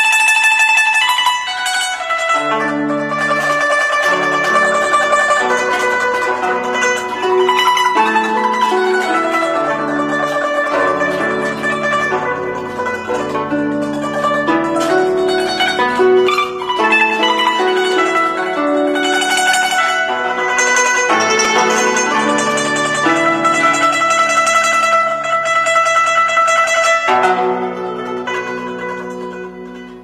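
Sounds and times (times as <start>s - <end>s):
zither plucked notes: 0.0s - 30.0s.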